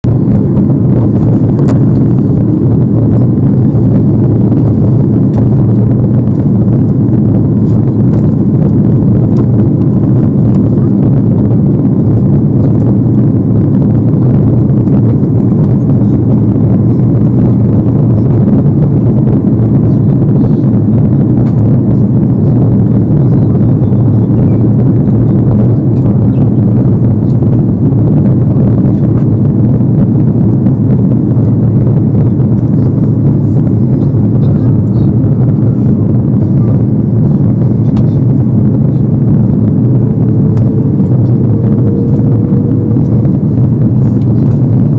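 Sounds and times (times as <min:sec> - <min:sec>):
airliner cabin engine noise: 0:00.0 - 0:44.9.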